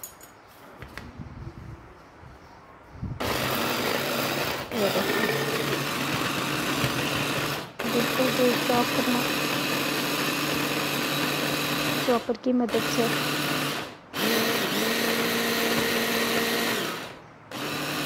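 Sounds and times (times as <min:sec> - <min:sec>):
hand blender motor running: 0:03.2 - 0:18.0.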